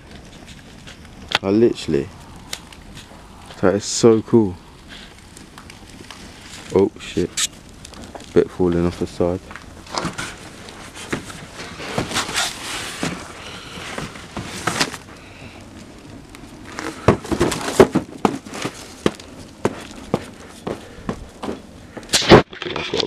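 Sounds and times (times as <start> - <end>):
fire crackling with pops: 0.0 - 23.0.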